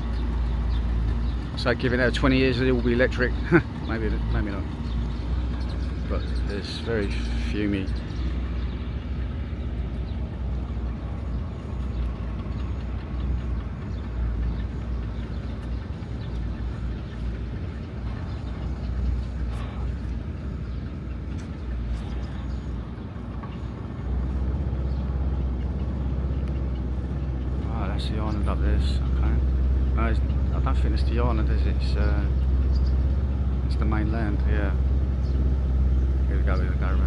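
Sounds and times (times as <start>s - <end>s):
motorboat engine running: 0.0s - 37.0s.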